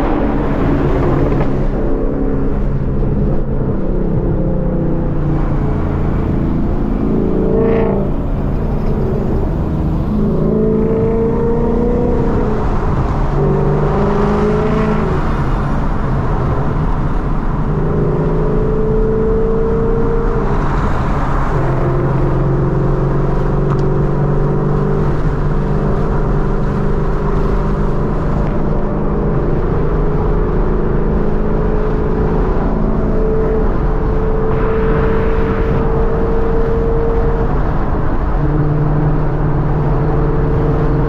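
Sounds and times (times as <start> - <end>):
car engine while driving: 0.0 - 41.0.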